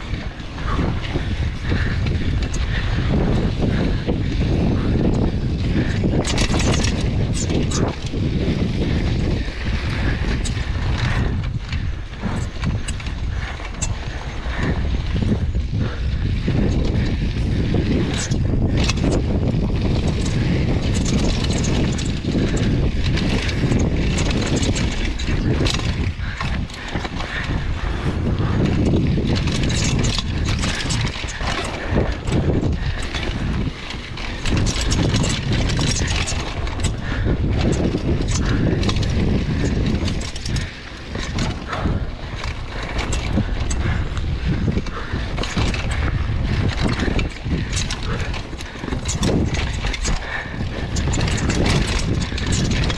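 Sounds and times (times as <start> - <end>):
bike rattling over rocks: 0.0 - 52.9
wind rumbling on microphone: 0.0 - 52.9.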